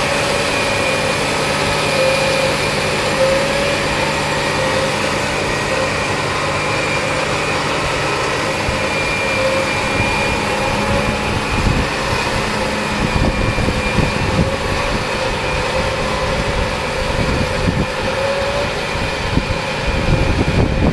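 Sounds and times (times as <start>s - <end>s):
steady whining tone: 0.0s - 20.9s
tractor diesel engine droning: 0.0s - 20.9s.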